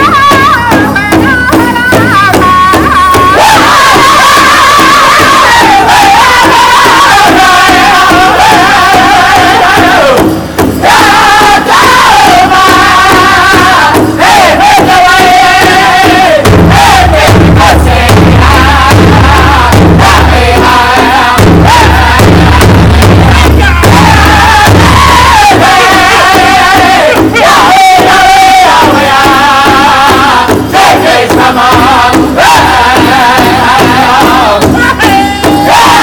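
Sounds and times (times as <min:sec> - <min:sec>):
group singing in high voices: 0:00.0 - 0:36.0
large drum beating: 0:00.0 - 0:36.0.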